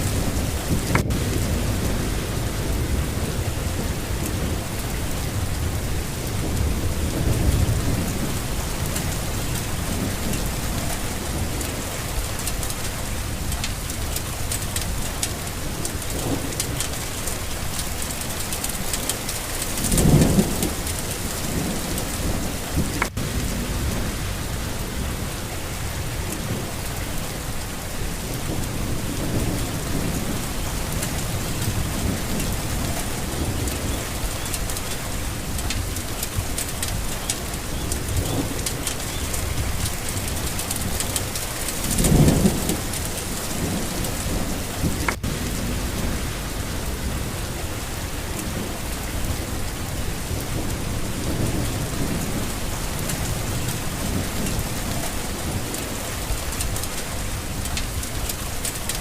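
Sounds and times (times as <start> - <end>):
steady rain: 0.0 - 59.0
thunder rumbling: 0.0 - 59.0.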